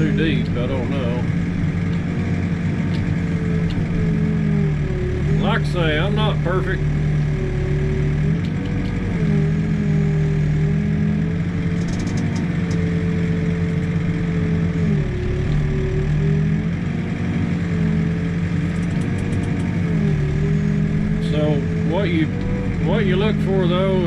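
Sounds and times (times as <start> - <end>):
backhoe diesel engine and hydraulics: 0.0 - 24.0.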